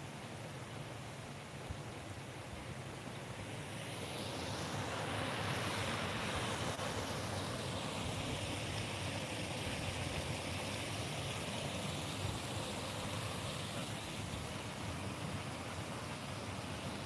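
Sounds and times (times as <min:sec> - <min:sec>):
steady rushing noise: 0:03.3 - 0:17.0.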